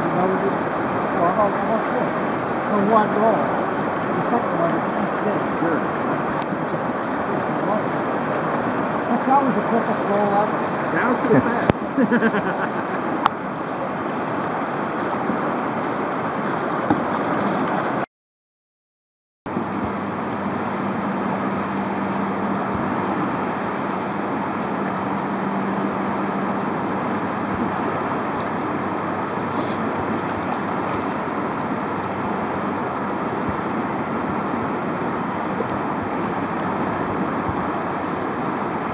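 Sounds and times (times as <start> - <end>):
whitewater rapids rushing: 0.0 - 18.0, 19.5 - 38.9.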